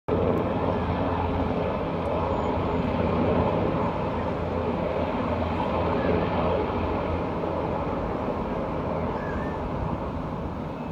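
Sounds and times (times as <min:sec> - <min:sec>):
helicopter rotor and turbine: 0:00.1 - 0:10.9.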